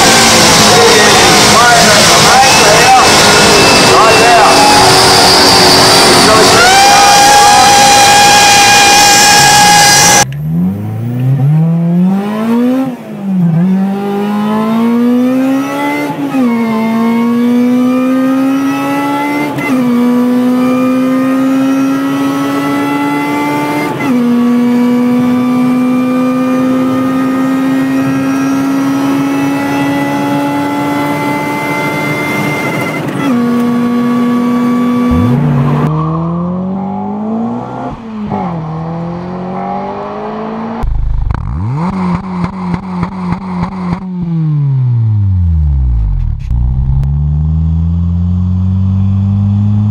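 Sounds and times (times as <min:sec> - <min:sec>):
car accelerating through gears: 0:00.0 - 0:49.9
engine revving: 0:00.0 - 0:49.9.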